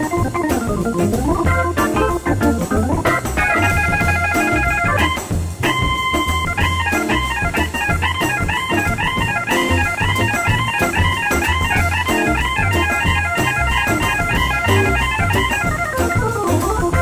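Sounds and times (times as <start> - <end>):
jazz organ runs: 0.0 - 17.0
steady bass line: 0.0 - 17.0.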